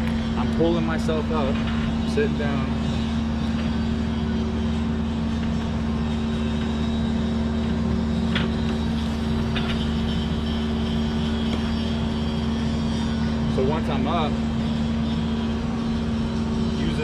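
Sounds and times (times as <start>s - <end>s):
machinery engine hum: 0.0s - 17.0s.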